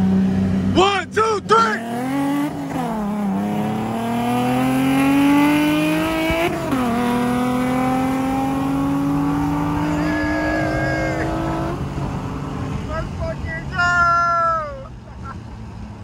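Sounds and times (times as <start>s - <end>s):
sports car engine accelerating: 0.0s - 13.6s.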